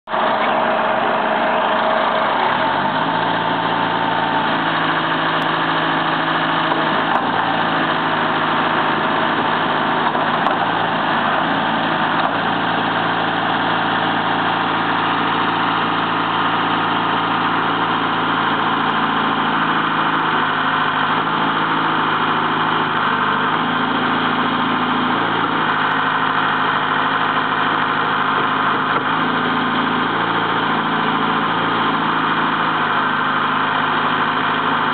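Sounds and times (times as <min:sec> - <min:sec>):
diesel engine running: 0:00.0 - 0:34.9
hydraulics working: 0:00.1 - 0:34.9.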